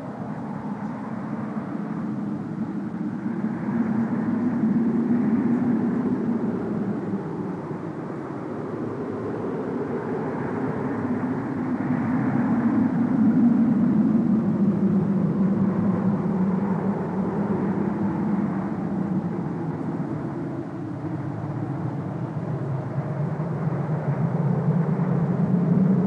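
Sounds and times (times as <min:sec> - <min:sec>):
low rushing wind: 0:00.0 - 0:26.0.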